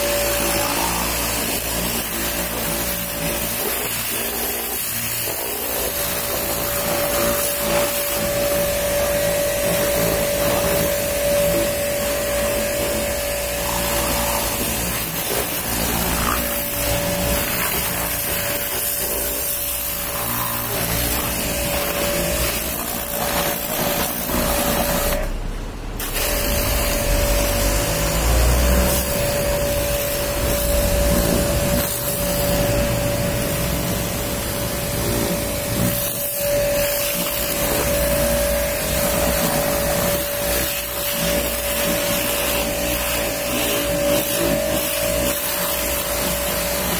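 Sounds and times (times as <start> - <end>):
pressure washer humming: 0.0 - 46.9
water jet hissing on car: 0.0 - 46.9.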